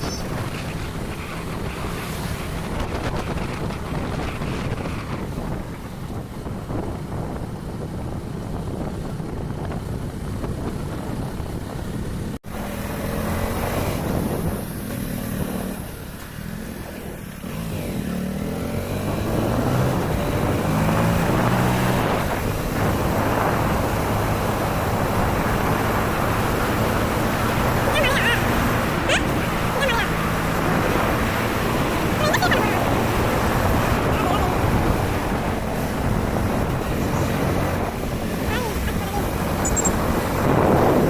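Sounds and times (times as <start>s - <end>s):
vehicle engine hum: 0.0s - 41.0s
wind rushing across microphone: 0.0s - 41.0s.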